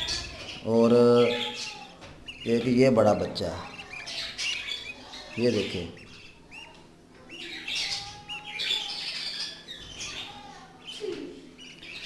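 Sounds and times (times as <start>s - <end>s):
budgerigars chirping and chattering: 0.0s - 12.0s.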